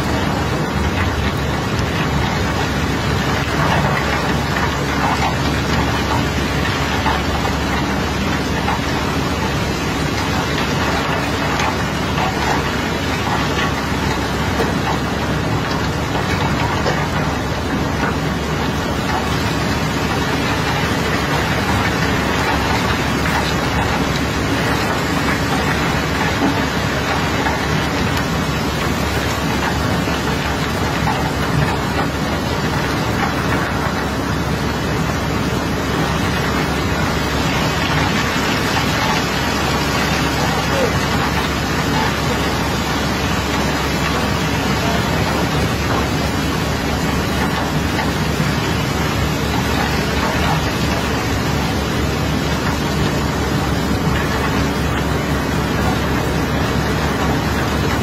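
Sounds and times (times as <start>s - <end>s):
water pouring from hose on steel: 0.0s - 58.0s.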